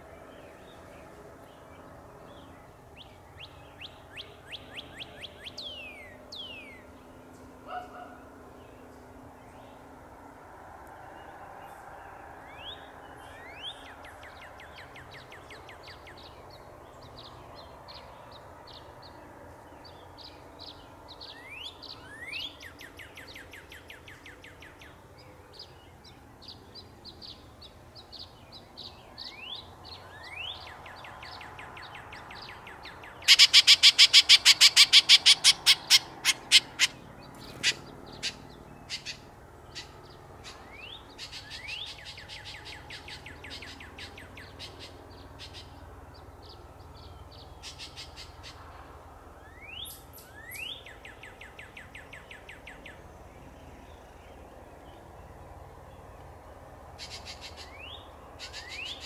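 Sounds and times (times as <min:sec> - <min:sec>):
small birds chirping: 0:00.0 - 0:09.9, 0:10.8 - 0:59.0.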